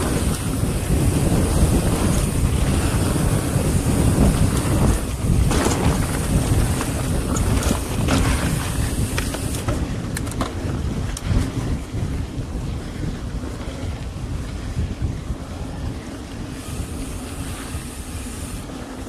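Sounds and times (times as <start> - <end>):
bike clicks and rattles: 0.0 - 19.0
bike tyre roar on dirt: 0.0 - 19.0
wind buffeting microphone: 0.0 - 19.0.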